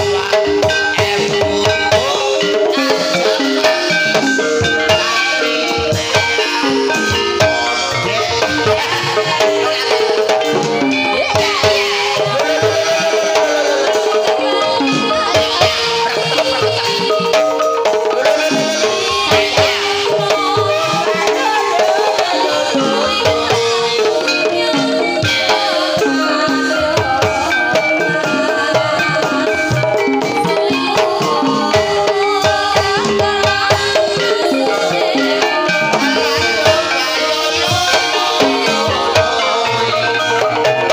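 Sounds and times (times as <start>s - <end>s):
drum strokes: 0.0s - 40.9s
metallophones playing melody: 0.0s - 40.9s
rattling percussion: 0.0s - 40.9s.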